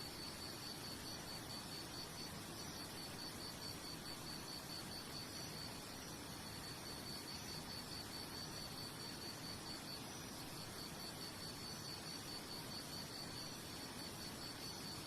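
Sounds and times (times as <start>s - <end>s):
soft steady hiss: 0.0s - 15.0s
cricket chirping trill: 0.1s - 15.0s.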